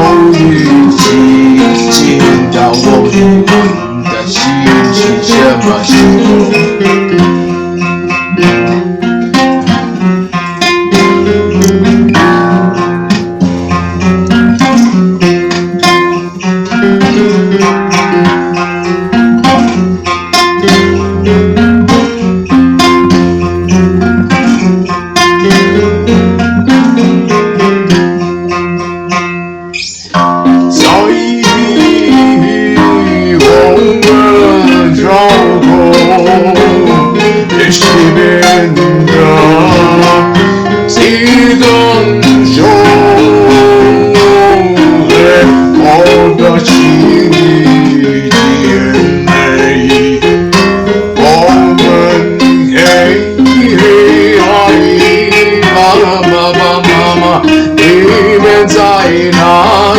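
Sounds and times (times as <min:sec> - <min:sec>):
fingerpicked acoustic guitar: 0:00.0 - 0:59.9.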